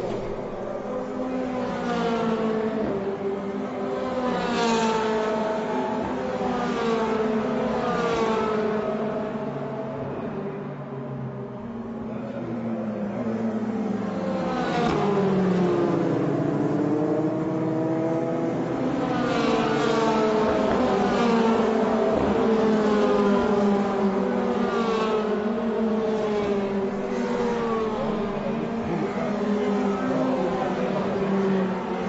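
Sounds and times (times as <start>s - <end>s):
race car engines passing: 0.0s - 32.0s.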